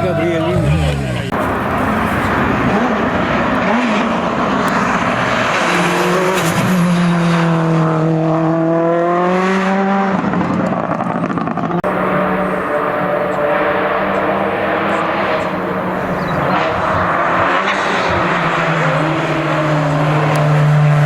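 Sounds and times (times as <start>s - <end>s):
race car engine passing at high revs: 0.0s - 21.0s.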